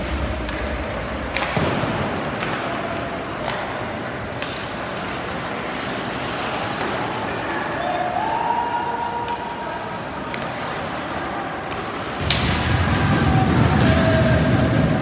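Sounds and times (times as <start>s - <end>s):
pucks and sticks striking ice: 0.0s - 8.0s, 9.0s - 13.9s
steady arena hum: 0.0s - 15.0s.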